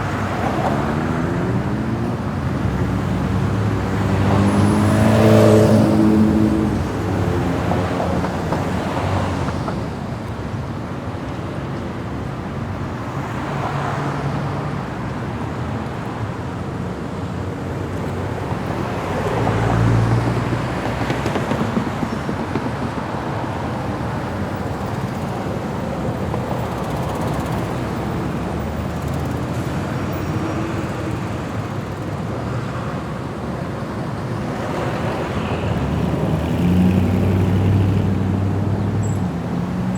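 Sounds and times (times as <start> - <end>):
engine and tyre noise: 0.0 - 39.9
vehicles passing: 0.0 - 39.9.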